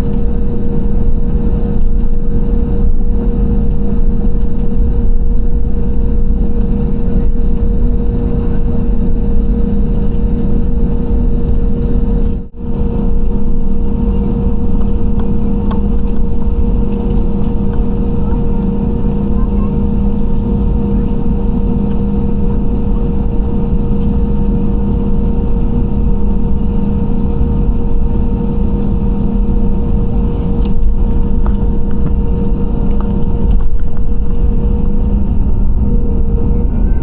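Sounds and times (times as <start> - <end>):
airliner engine rumble in cabin: 0.0 - 37.0.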